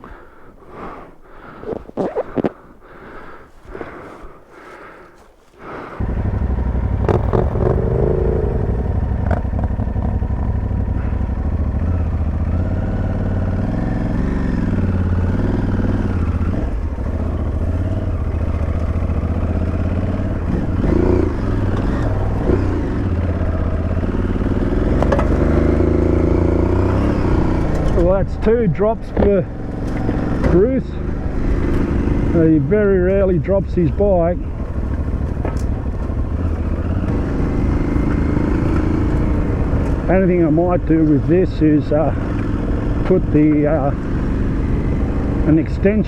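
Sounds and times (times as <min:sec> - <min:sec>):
motorcycle engine idling: 0:04.5 - 0:46.0.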